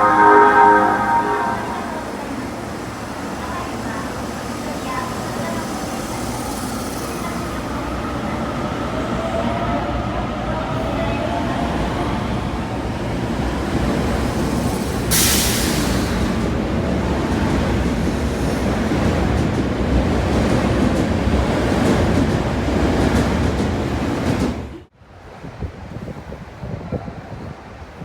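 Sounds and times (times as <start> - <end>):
train rumbling: 0.0 - 26.6.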